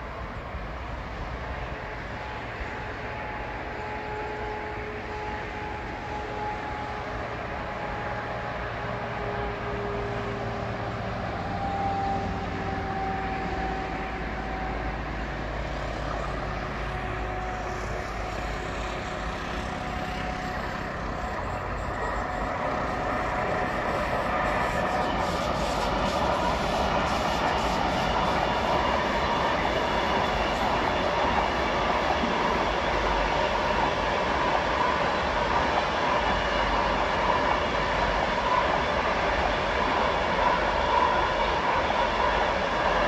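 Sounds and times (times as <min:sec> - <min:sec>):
approaching train hum: 0:00.0 - 0:43.0.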